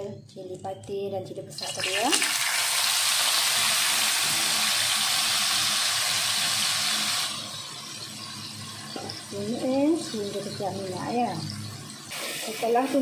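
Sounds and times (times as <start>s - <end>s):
spice paste sizzling in hot oil: 1.6s - 13.0s.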